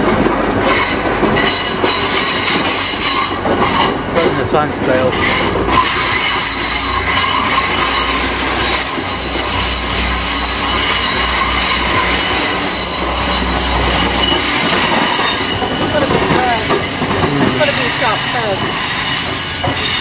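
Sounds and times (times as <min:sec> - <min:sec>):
train rumble: 0:00.0 - 0:20.0
train whine and squeal: 0:00.0 - 0:20.0.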